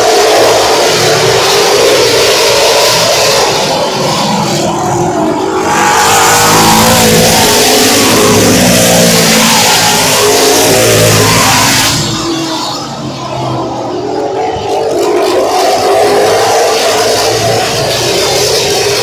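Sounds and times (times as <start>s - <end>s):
race car engines at full throttle: 0.0s - 19.0s.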